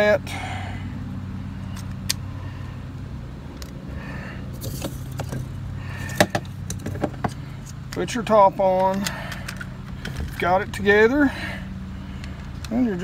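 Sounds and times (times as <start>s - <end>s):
distant engine hum: 0.0s - 13.0s.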